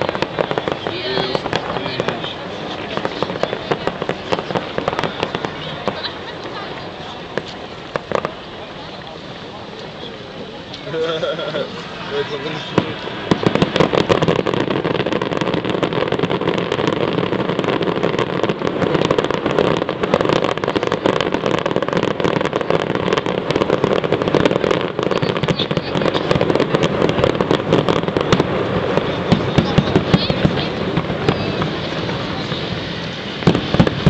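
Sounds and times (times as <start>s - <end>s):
sharp firework pops: 0.0s - 10.9s, 12.7s - 34.0s
fireworks crackling bangs: 0.0s - 34.0s.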